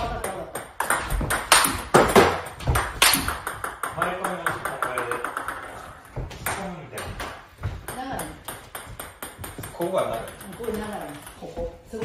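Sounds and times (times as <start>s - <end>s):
table tennis ball hits: 0.0s - 11.5s.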